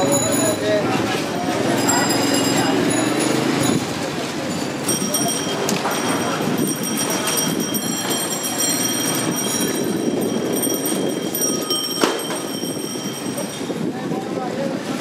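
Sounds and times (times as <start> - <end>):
motorcycle engine and road noise: 0.0 - 15.0.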